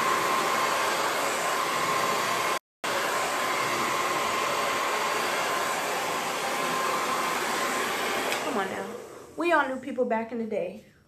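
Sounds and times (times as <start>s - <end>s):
hair dryer running: 0.0s - 9.8s.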